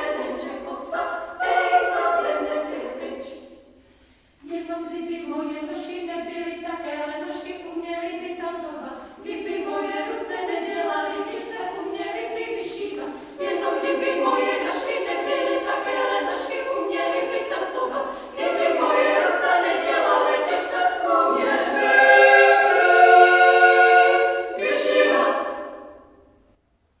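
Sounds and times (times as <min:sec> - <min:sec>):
women's choir singing: 0:00.0 - 0:03.8, 0:04.4 - 0:26.4.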